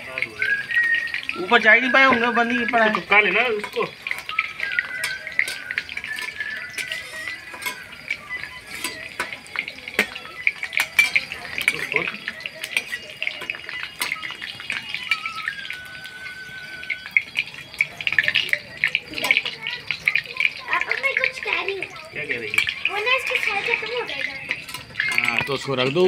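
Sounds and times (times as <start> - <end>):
skimmer scraping and clinking pan: 0.0 - 26.0
vegetables sizzling in oil: 0.0 - 26.0.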